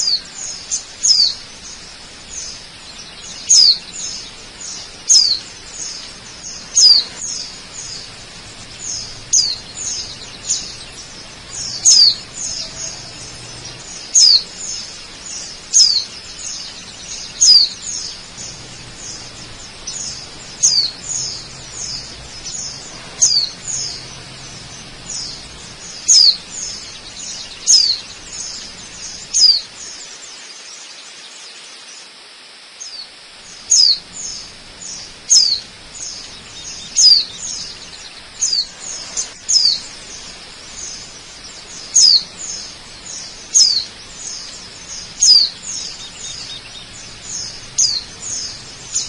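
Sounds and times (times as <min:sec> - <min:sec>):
bird chirping: 0:00.0 - 0:31.6, 0:32.7 - 0:49.0
waterfall rushing: 0:00.0 - 0:49.0.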